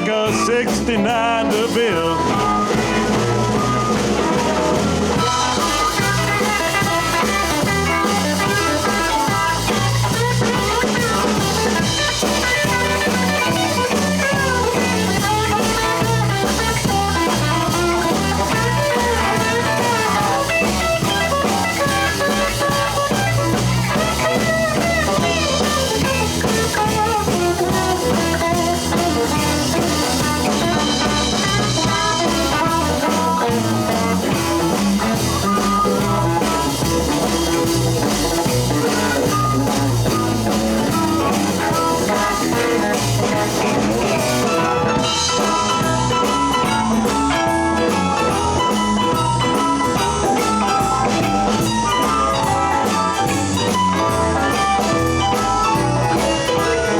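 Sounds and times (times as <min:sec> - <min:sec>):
blues band playing: 0:00.0 - 0:56.9
electric guitar lead line bending: 0:00.0 - 0:56.9.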